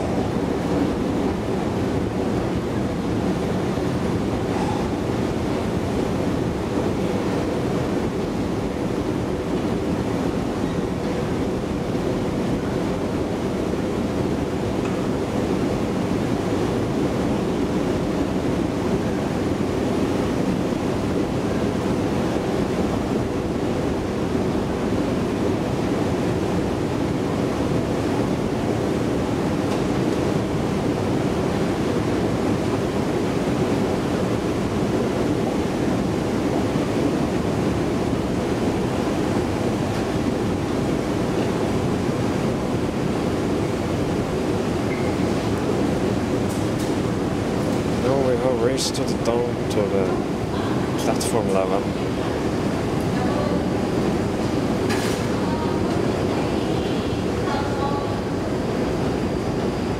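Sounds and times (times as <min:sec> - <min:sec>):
escalator running drone: 0:00.0 - 0:59.9.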